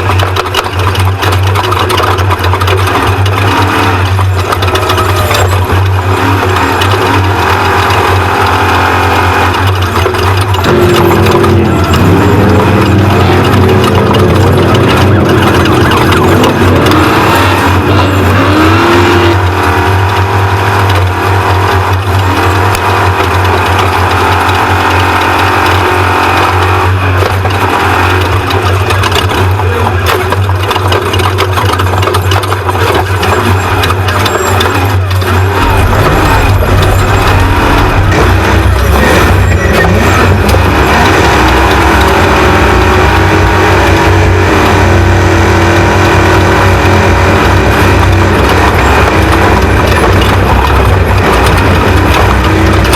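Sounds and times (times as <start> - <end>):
race truck engine running hard: 0.0 - 52.9.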